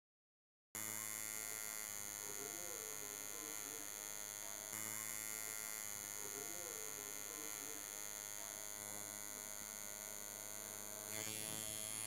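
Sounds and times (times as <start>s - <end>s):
tattoo machine buzzing: 0.8s - 12.0s.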